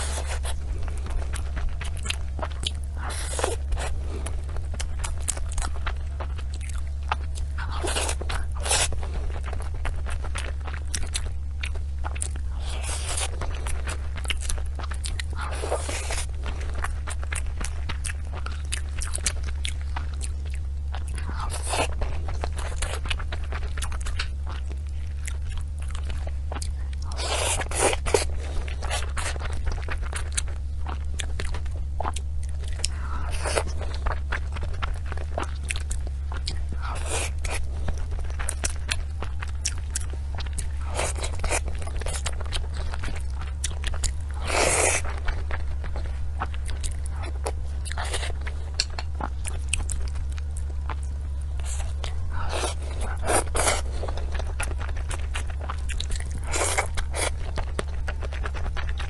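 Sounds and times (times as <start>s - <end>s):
crunching and chewing food: 0.0s - 59.0s.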